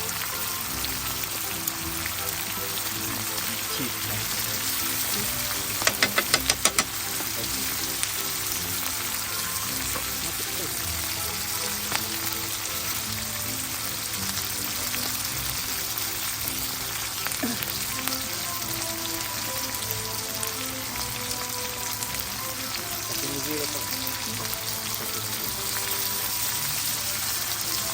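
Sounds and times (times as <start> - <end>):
food sizzling: 0.0 - 27.9
soft music: 0.0 - 27.9.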